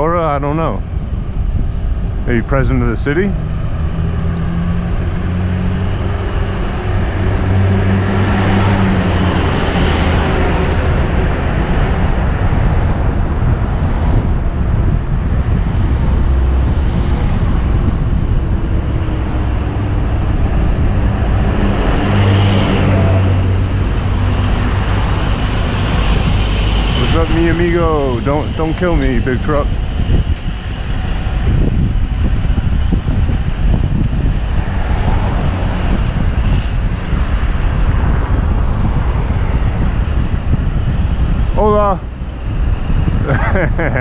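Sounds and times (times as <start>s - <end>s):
wind rushing on microphone: 0.0s - 44.0s
passing vehicle engine hum: 0.8s - 44.0s.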